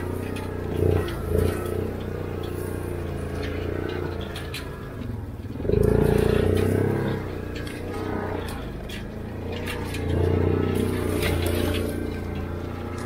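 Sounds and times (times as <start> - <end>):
quad bike engine revving: 0.0 - 13.0
rattles and clicks: 0.0 - 13.0.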